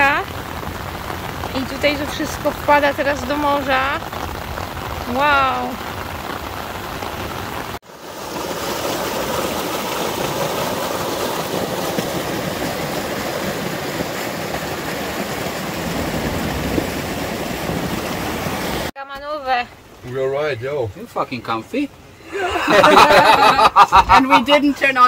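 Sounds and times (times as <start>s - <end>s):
rushing floodwater: 0.0s - 25.0s.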